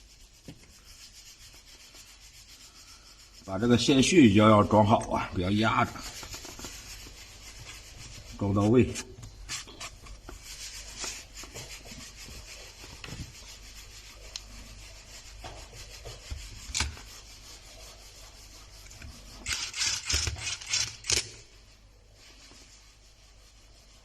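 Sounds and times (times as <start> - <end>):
plastic rubbing and scraping: 0.0 - 21.2.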